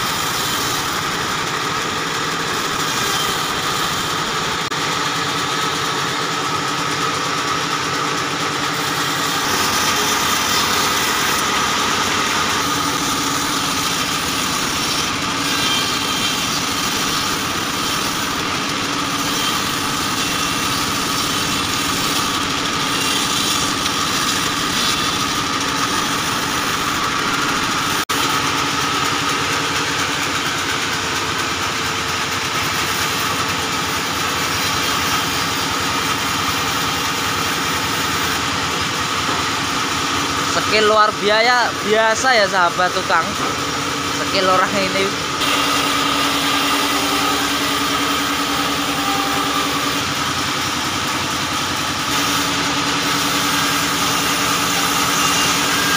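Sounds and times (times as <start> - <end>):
band saw cutting logs: 0.0 - 55.9.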